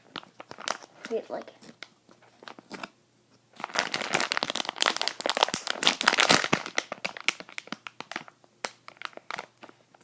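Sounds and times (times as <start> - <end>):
packaging crinkling: 0.0 - 2.9, 3.5 - 10.0.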